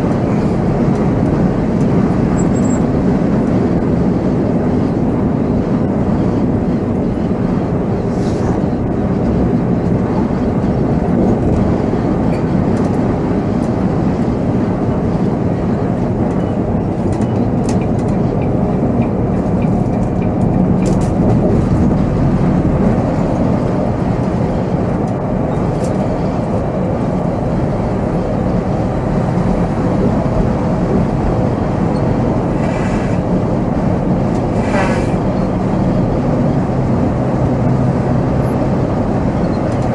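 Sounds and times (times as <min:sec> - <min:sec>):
coach diesel engine running: 0:00.0 - 0:39.9
road noise: 0:00.0 - 0:39.9.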